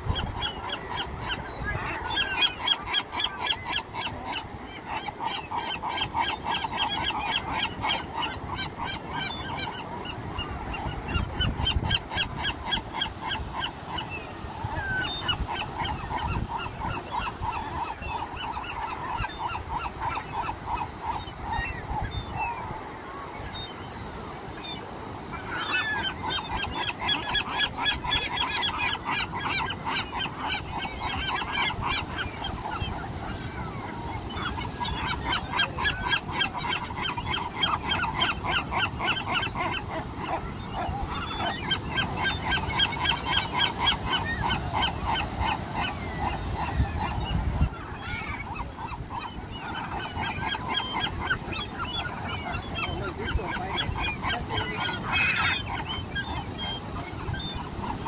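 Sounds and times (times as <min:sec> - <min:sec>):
gulls calling: 0:00.0 - 0:58.0
surf washing: 0:00.0 - 0:58.0.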